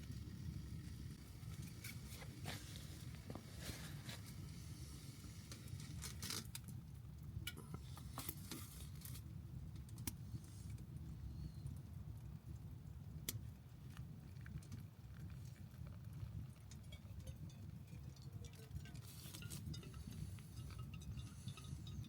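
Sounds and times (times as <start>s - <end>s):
low rumble of stove: 0.0s - 22.0s
wood fire crackling: 0.0s - 22.0s.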